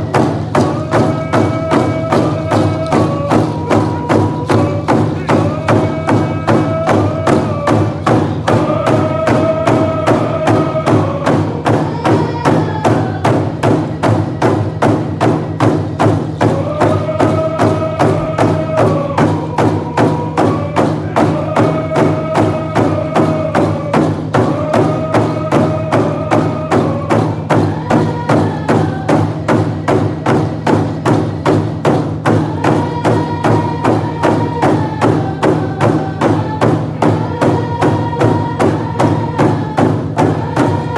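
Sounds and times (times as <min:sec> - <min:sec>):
group of voices singing: 0:00.0 - 0:40.9
hand drums beating: 0:00.0 - 0:40.9.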